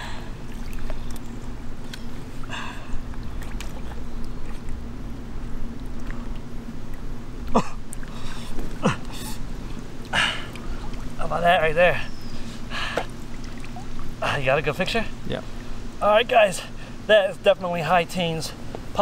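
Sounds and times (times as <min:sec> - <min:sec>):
water sloshing and splashing: 0:00.0 - 0:16.0.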